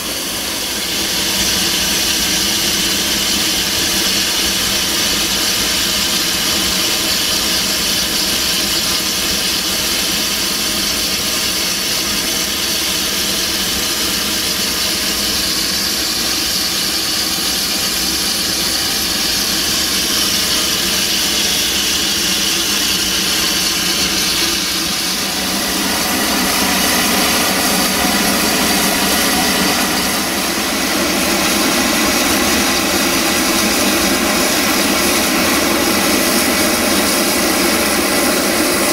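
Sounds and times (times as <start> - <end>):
steam train hiss: 0.0 - 38.9.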